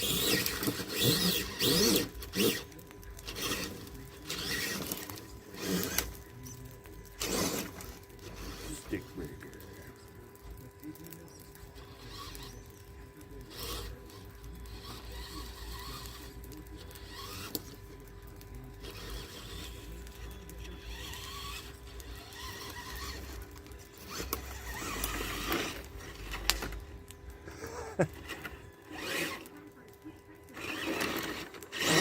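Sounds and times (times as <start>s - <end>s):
crunching and clicks: 0.0s - 32.0s
electric motor and gears whining: 0.0s - 32.0s.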